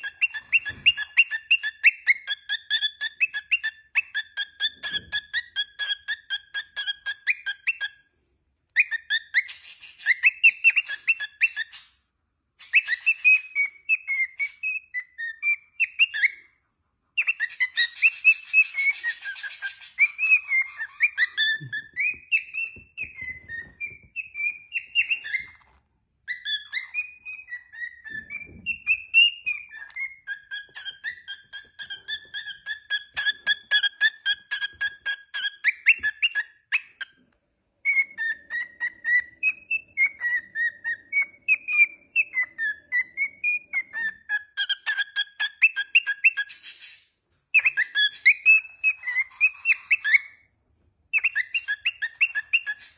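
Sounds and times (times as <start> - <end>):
cockatiel whistling and chattering: 0.0 - 8.1, 8.7 - 50.5, 51.1 - 52.9.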